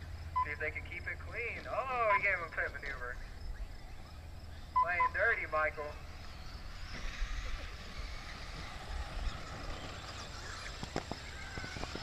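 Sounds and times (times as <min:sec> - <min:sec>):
faint whining: 0:00.0 - 0:12.0
toy trucks running on dirt: 0:01.2 - 0:12.0.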